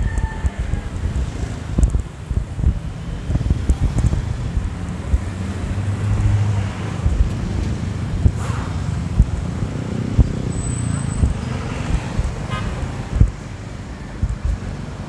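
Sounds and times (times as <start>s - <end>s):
road traffic rumble: 0.0s - 15.0s
vehicle engine hum: 0.0s - 15.0s
wind buffeting microphone: 0.0s - 15.0s.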